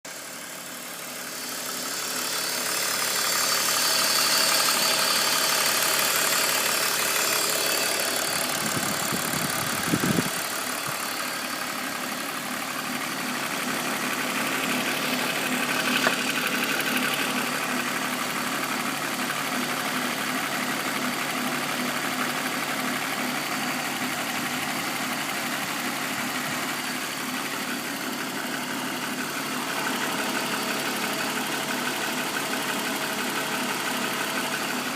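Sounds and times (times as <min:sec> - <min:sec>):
car engine idling: 0:00.1 - 0:34.9
engine knocking: 0:00.1 - 0:34.9.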